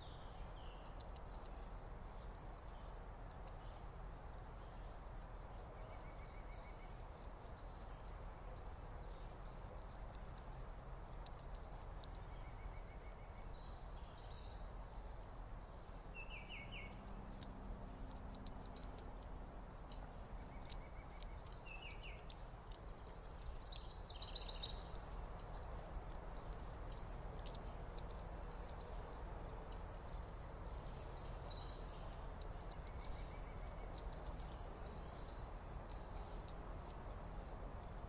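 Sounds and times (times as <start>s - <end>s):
background hiss: 0.0s - 38.0s
birds chirping: 0.0s - 38.0s.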